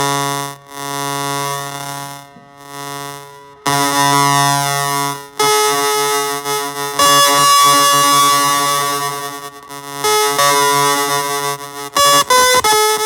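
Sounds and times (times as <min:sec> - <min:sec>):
buzzy held musical notes: 0:00.0 - 0:13.0.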